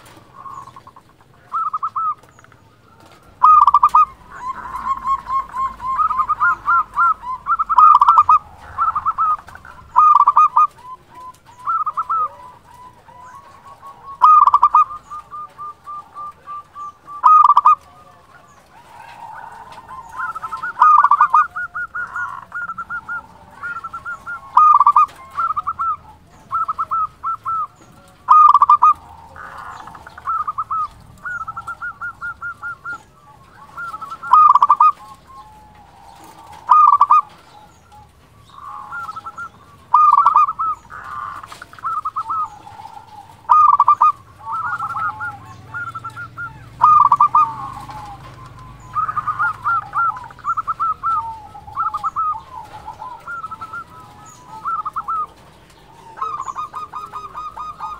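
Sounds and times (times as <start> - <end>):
dove cooing: 0.0 - 57.9
dove trilling: 0.0 - 57.9.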